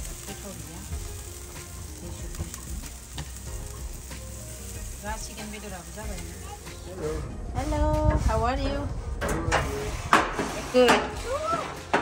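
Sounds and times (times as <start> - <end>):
meat sizzling on a grill: 0.0 - 8.8, 9.6 - 12.0.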